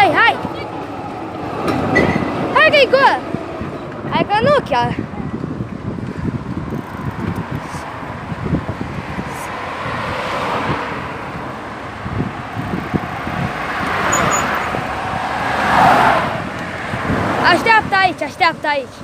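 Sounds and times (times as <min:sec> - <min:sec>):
cars passing close by: 0:00.0 - 0:19.0
wind buffeting microphone: 0:00.0 - 0:19.0.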